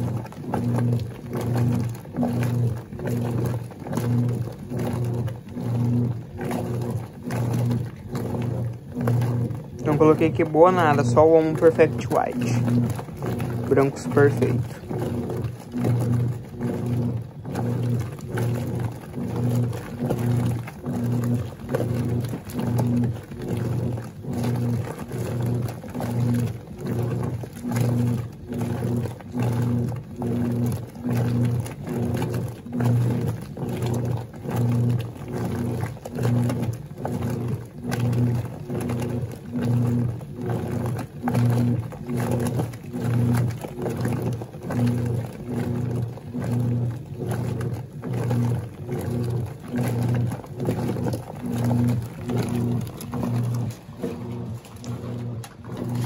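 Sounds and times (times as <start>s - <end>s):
washing machine agitating: 0.0s - 56.0s.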